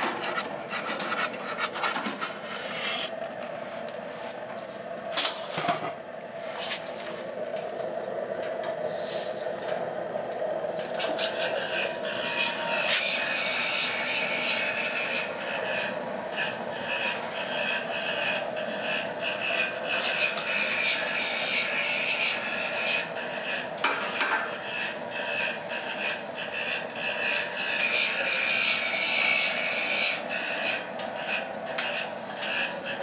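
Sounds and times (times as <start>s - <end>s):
blower fan whirring: 0.0s - 33.0s.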